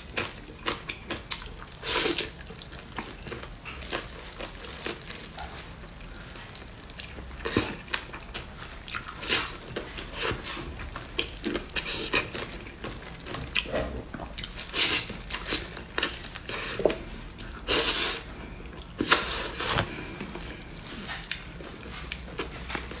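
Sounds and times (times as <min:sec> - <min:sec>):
close chewing and sucking: 0:00.0 - 0:23.0.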